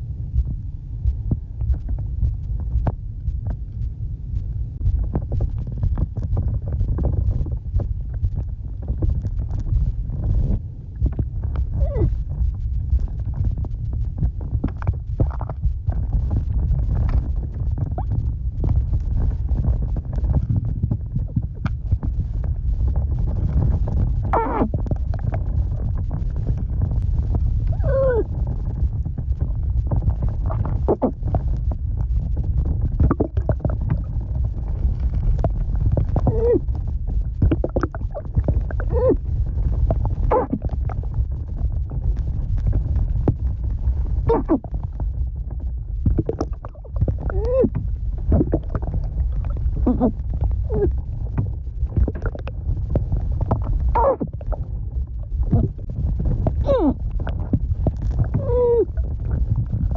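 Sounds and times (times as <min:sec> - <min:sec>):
low underwater rumble: 0:00.0 - 0:59.9
bubbles gurgling and popping: 0:04.8 - 0:59.9.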